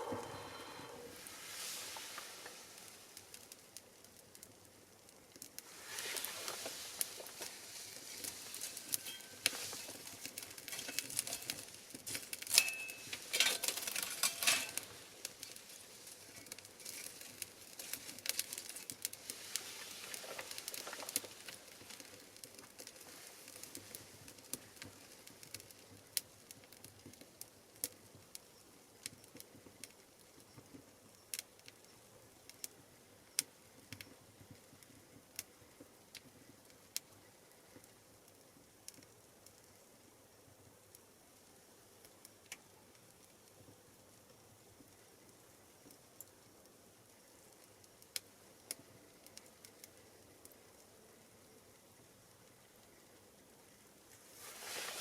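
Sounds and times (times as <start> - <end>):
fire crackling and hissing: 0.0 - 55.0.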